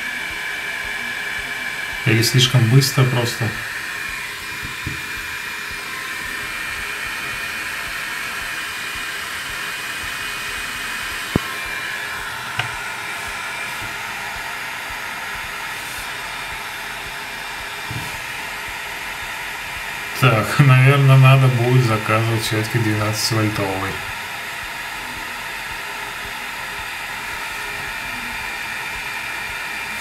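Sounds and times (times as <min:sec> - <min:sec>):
cooling fan whirring with high whine: 0:00.0 - 0:30.0.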